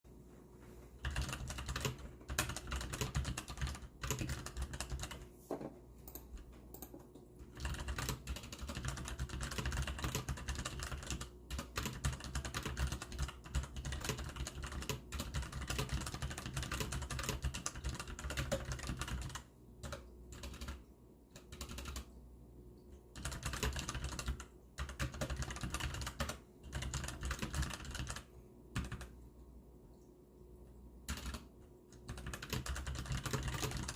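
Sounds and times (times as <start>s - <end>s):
mechanical keyboard typing: 1.0s - 5.3s, 6.1s - 22.1s, 23.1s - 29.1s, 31.1s - 33.9s.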